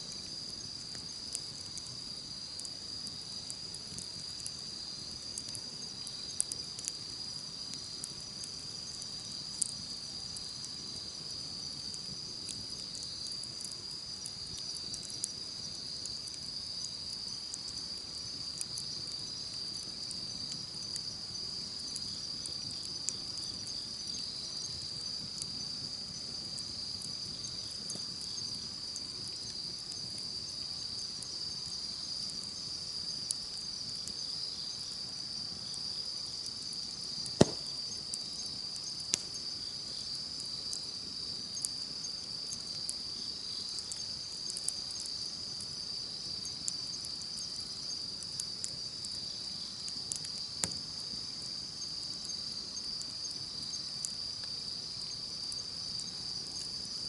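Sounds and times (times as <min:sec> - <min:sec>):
campfire crackling and popping: 0:00.0 - 0:56.8
insect chorus: 0:00.0 - 0:57.0.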